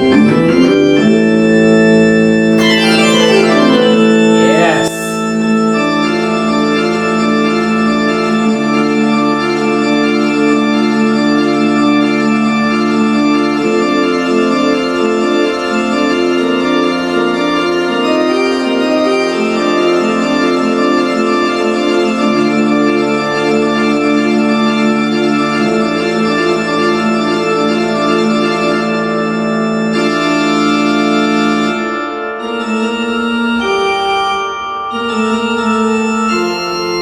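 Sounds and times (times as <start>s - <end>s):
sustained organ chords: 0.0s - 37.0s.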